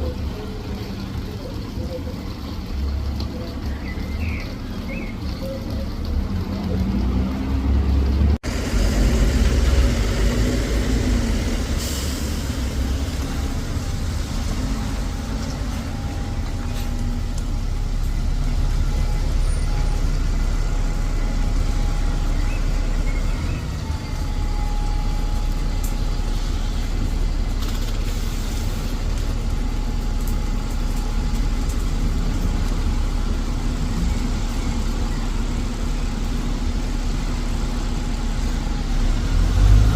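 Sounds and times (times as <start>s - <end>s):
bus engine running: 0.0s - 39.9s.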